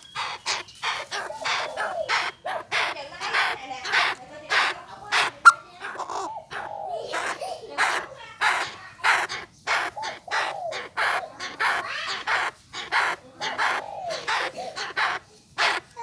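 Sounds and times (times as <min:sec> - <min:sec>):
francolin harsh grating calls: 0:00.0 - 0:16.0.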